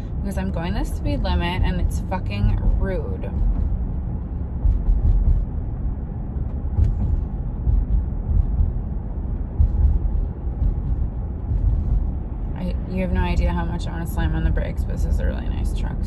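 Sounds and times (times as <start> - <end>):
truck road and engine rumble: 0.0 - 16.0.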